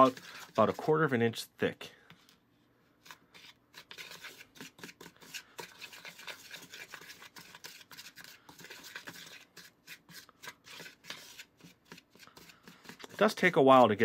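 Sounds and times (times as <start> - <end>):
spatula scraping plastic bowl: 0.0 - 1.2, 3.0 - 14.0.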